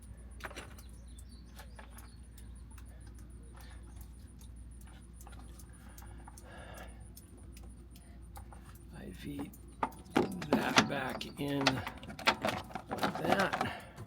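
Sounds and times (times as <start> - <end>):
light clicks and taps of parts: 0.0 - 14.0
low steady hum: 0.0 - 14.0.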